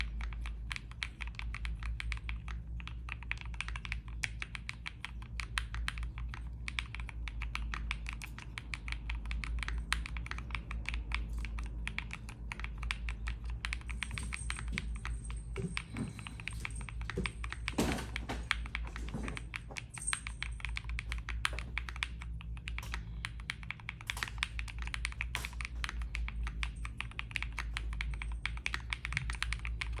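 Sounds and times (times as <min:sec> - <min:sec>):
mechanical keyboard typing: 0:00.0 - 0:30.0.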